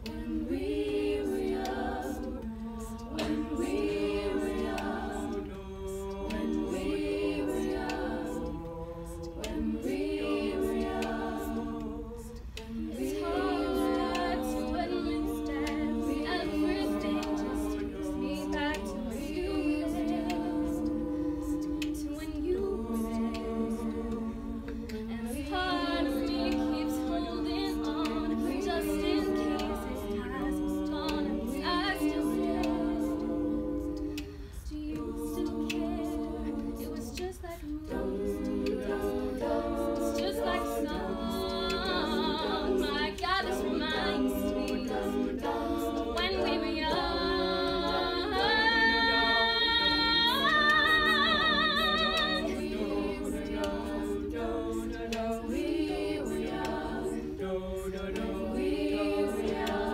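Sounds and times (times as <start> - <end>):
women singing a cappella: 0.0 - 59.9.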